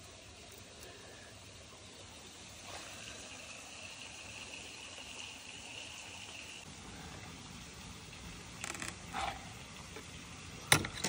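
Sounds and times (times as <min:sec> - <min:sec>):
stream water flowing: 0:00.0 - 0:11.0.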